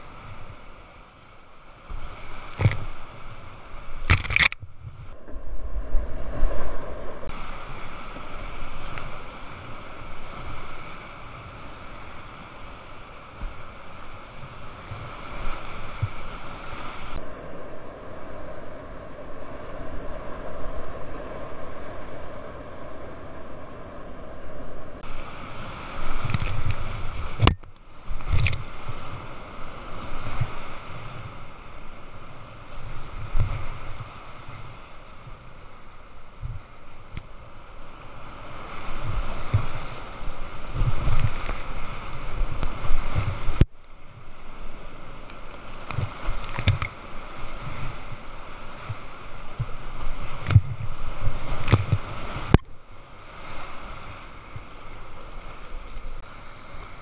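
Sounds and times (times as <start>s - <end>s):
waves thumping on boat: 0.0s - 5.4s, 6.3s - 17.3s, 25.0s - 57.0s.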